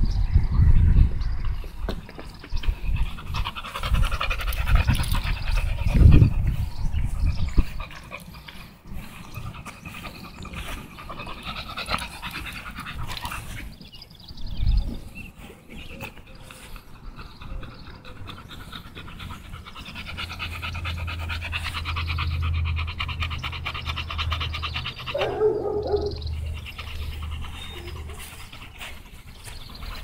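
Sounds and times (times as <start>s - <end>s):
dog panting: 2.2s - 14.0s, 15.0s - 30.0s.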